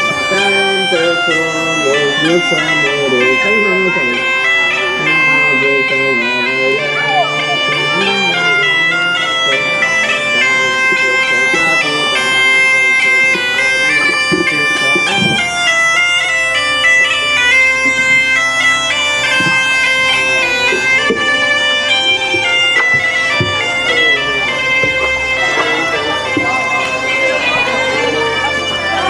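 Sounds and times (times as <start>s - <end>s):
bagpipe melody over drone: 0.0s - 29.0s.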